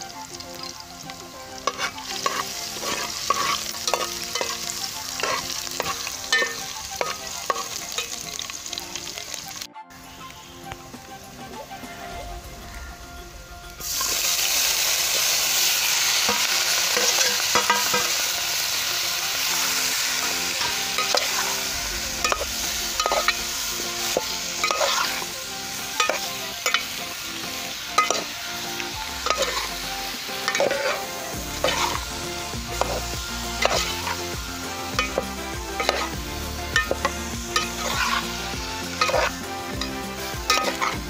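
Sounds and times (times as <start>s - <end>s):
food sizzling in hot oil: 0.0s - 41.0s
steel spoon scraping a pan: 1.6s - 8.5s, 13.8s - 18.4s, 19.2s - 41.0s.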